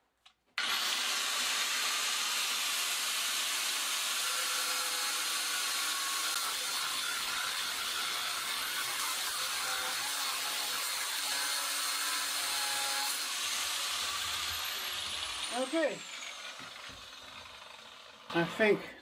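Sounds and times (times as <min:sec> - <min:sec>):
angle grinder cutting metal: 0:00.6 - 0:19.0.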